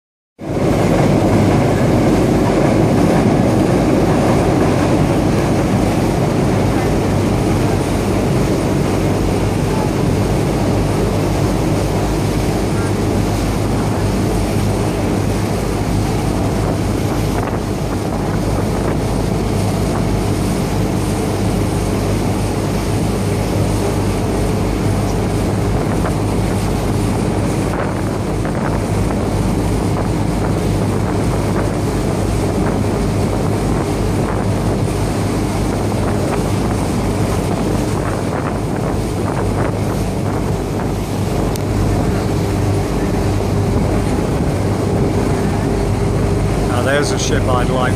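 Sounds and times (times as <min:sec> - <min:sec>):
boat engine droning: 0:00.4 - 0:47.9
water rushing past: 0:00.4 - 0:47.9
wind on microphone: 0:00.4 - 0:47.9.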